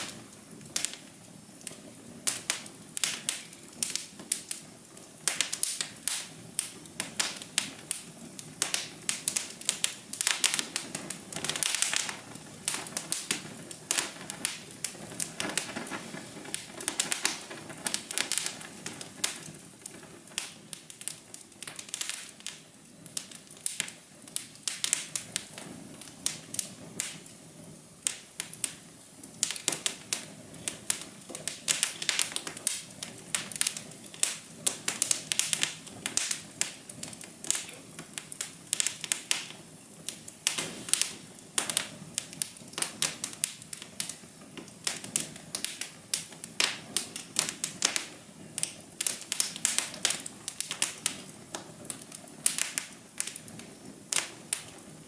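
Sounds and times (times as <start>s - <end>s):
soft hiss of flames: 0.0s - 55.0s
wood fire crackling: 0.0s - 55.0s.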